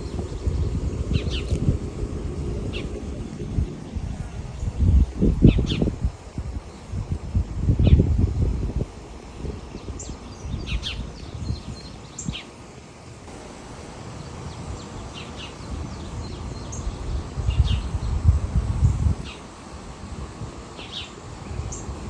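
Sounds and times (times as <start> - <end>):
leaves rustling: 0.0 - 22.0
wild birds singing: 0.0 - 22.0
wind gusts: 0.0 - 22.0.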